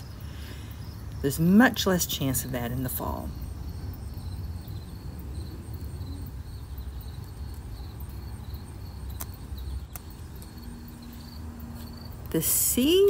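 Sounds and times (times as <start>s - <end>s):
constant low rumble: 0.0s - 13.0s
insects chirping: 0.0s - 13.0s.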